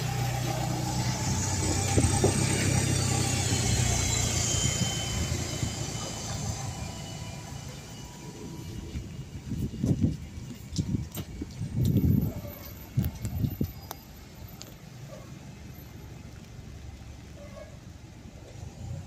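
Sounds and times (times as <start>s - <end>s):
bus diesel engine pulling away: 0.0s - 19.0s.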